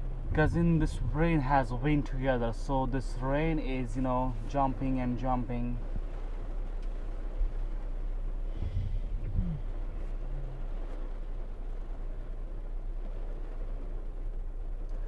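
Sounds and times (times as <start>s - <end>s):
constant low hum: 0.0s - 15.0s
heavy rain on car roof: 0.0s - 15.0s.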